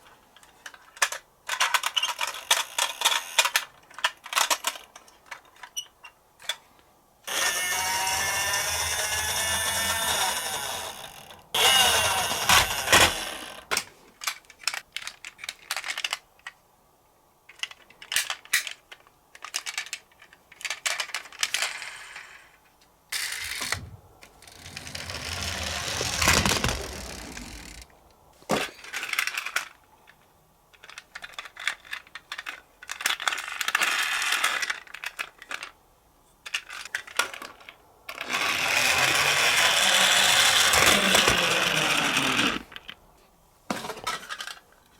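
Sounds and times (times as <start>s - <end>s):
toy car rolling and rattling: 0.4s - 6.6s, 7.3s - 16.6s, 17.5s - 27.9s, 28.5s - 35.8s, 36.4s - 43.0s, 43.8s - 44.9s.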